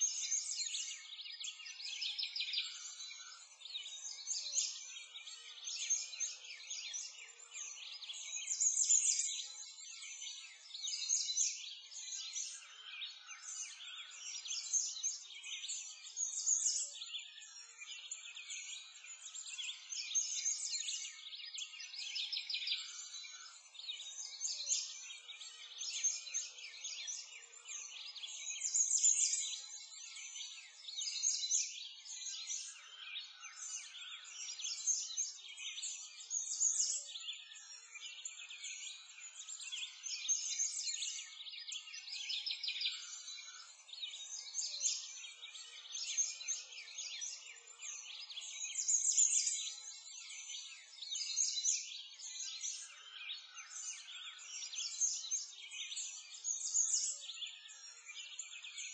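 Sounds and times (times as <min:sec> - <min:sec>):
chorus of birds chirping: 0:00.0 - 0:58.9.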